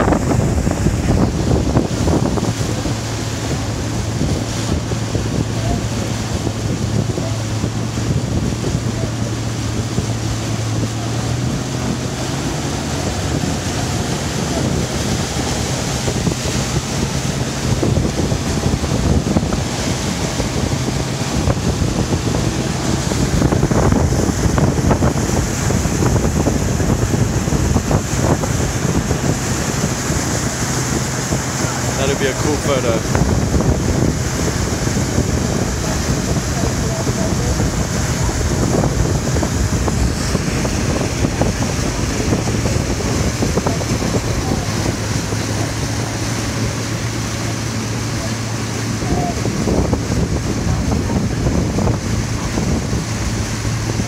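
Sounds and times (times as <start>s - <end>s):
boat engine humming: 0.0s - 54.0s
water rushing past hull: 0.0s - 54.0s
wind buffeting microphone: 0.0s - 54.0s.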